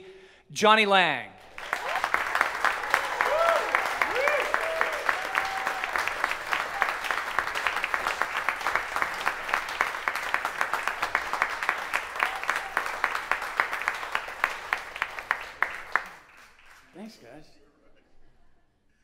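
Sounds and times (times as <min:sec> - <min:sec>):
audience applauding: 0:01.4 - 0:17.4.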